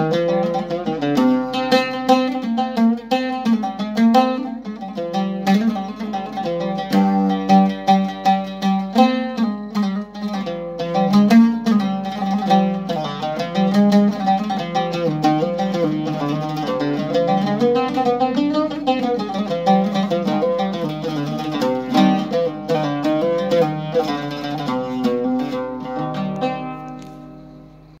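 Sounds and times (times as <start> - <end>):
oud plucked with a plectrum: 0.0 - 28.0.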